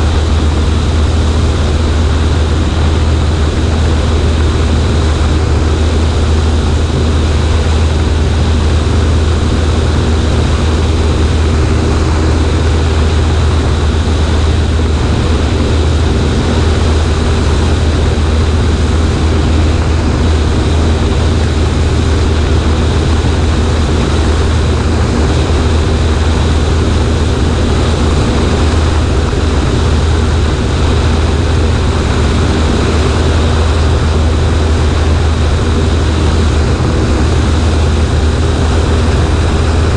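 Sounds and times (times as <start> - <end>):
propeller airplane engine drone: 0.0 - 39.9
wind noise: 0.0 - 39.9.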